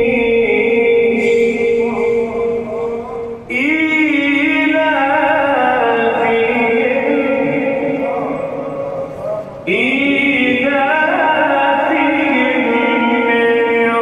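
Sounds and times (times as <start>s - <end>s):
man chanting recitation: 0.0s - 14.0s.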